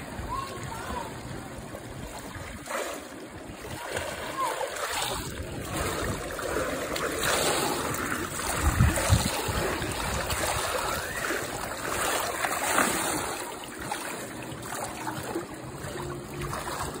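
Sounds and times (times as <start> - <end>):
pool water splashing: 0.0 - 17.0.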